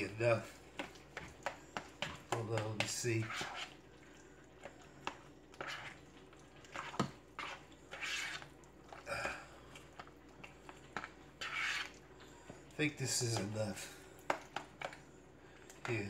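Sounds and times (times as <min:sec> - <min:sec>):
spoon scraping wet salad: 0:00.0 - 0:16.0.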